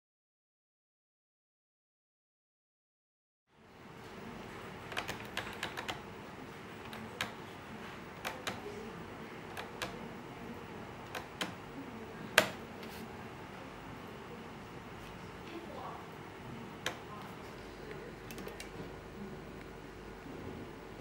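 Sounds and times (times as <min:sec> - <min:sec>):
steady low hum: 0:03.5 - 0:21.0.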